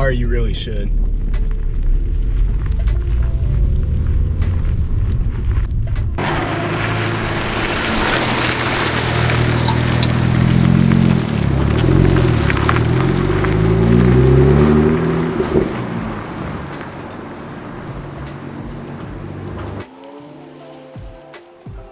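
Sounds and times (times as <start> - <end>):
car exhaust accelerating: 0.0 - 19.9.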